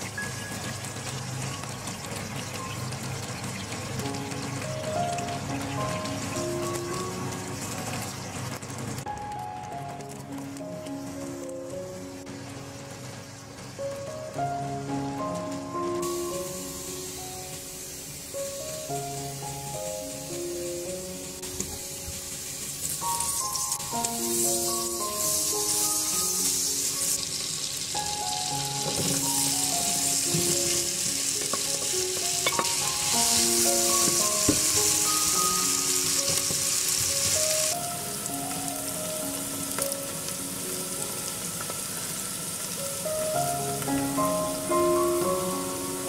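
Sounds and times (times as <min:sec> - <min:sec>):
onions sizzling in hot oil: 0:00.0 - 0:46.0
soft plucked background music: 0:00.0 - 0:46.0.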